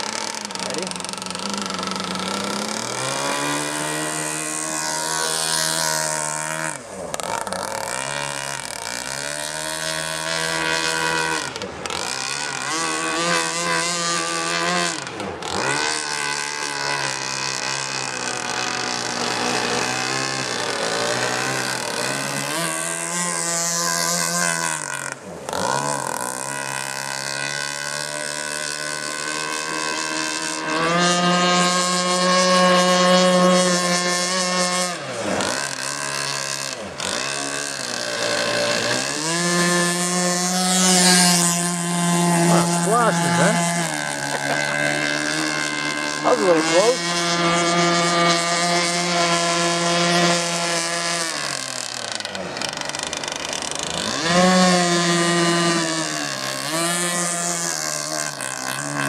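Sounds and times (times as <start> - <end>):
model boat engine revving: 0.0 - 59.0.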